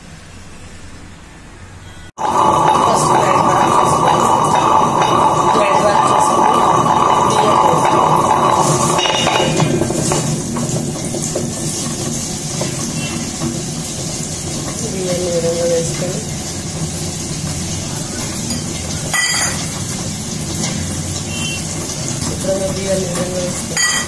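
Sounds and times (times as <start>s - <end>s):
wet grinder humming: 2.2s - 24.0s.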